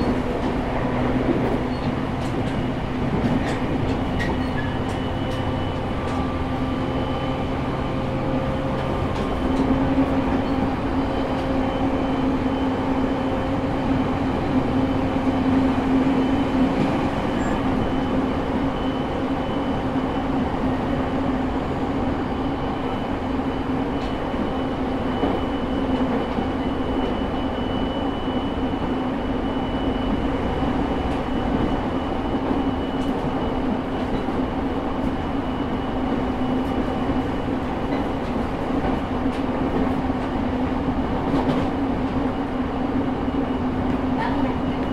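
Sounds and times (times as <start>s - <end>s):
train motor and gear whine: 0.0s - 44.9s
wheels rumbling on rail: 0.0s - 44.9s.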